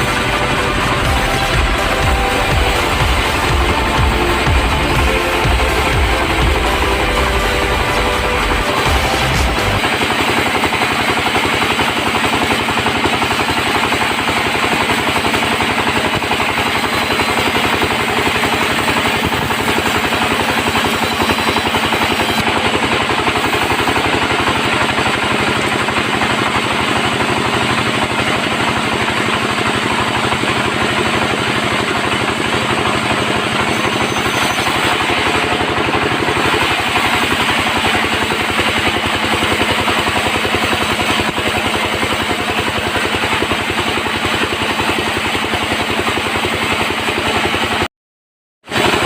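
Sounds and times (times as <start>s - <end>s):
bandsaw sawing wood: 0.0s - 47.9s.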